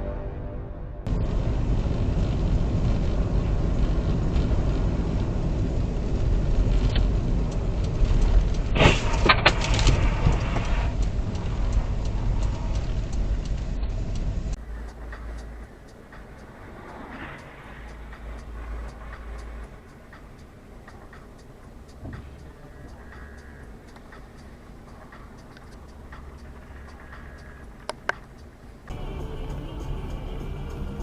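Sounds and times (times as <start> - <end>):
car driving rumble: 1.0 - 31.0
faint regular ticking: 5.5 - 31.0.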